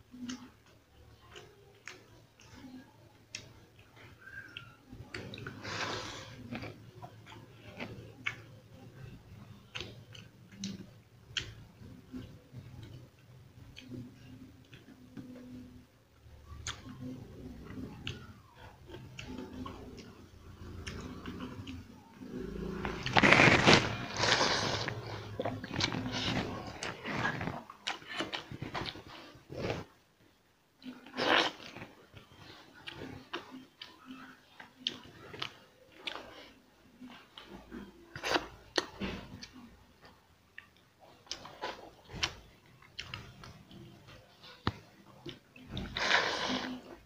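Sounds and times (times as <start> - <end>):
person chewing with wet smacks: 0.1 - 15.8, 16.4 - 29.9, 30.8 - 47.0.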